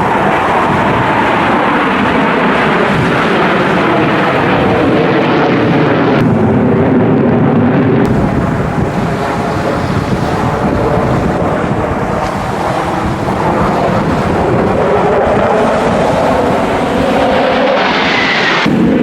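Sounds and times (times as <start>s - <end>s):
falling jet whine: 0.0s - 19.0s
jet engine rumble: 0.0s - 19.0s.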